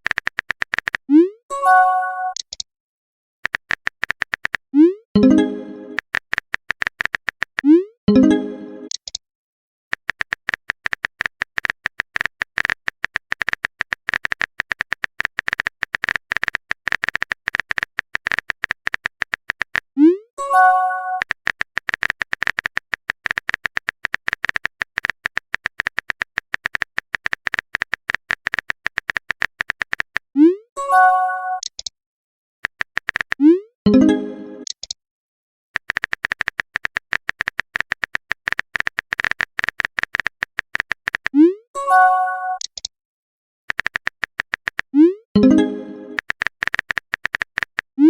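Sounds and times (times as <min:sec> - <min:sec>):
keyboard typing clicks: 0:00.0 - 0:01.4, 0:02.2 - 0:02.7, 0:03.4 - 0:09.2, 0:09.9 - 0:19.9, 0:20.6 - 0:30.3, 0:31.5 - 0:31.9, 0:32.6 - 0:35.0, 0:35.8 - 0:41.5, 0:42.5 - 0:42.9, 0:43.7 - 0:48.0.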